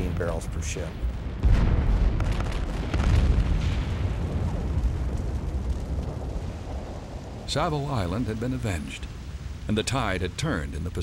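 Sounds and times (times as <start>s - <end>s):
heavy low explosion rumble: 0.0s - 10.9s.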